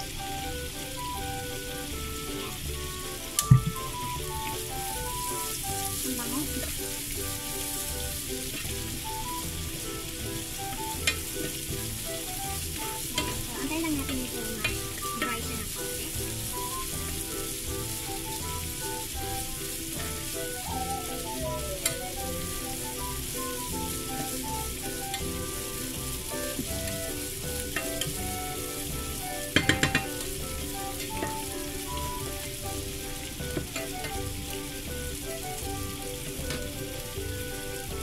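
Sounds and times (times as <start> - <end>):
oil sizzling: 0.0 - 38.0.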